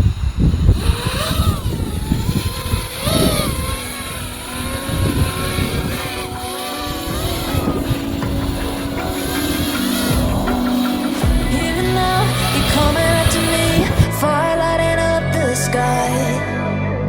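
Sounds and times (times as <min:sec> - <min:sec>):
wind buffeting microphone: 0:00.0 - 0:14.2
drone motors whining: 0:00.0 - 0:15.2.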